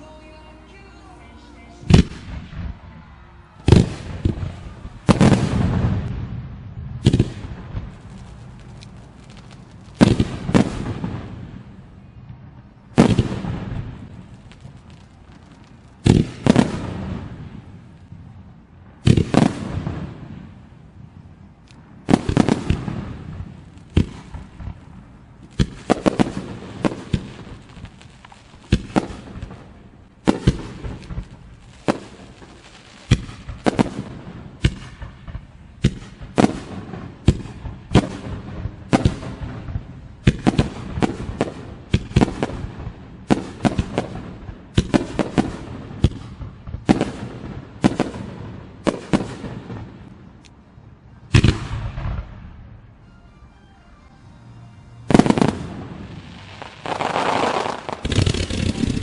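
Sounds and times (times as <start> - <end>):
fireworks bursting and crackling: 0.0 - 50.6, 51.3 - 59.0.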